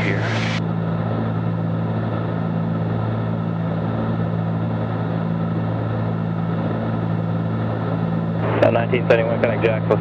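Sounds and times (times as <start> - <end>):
airplane cabin engine drone: 0.0 - 10.0.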